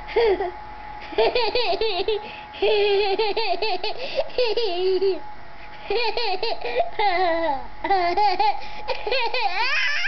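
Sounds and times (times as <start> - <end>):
young children laughing: 0.1 - 10.0.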